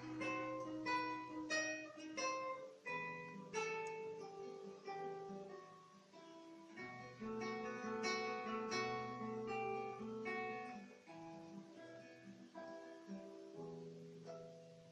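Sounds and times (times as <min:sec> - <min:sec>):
fingerstyle acoustic guitar: 0:00.0 - 0:14.9.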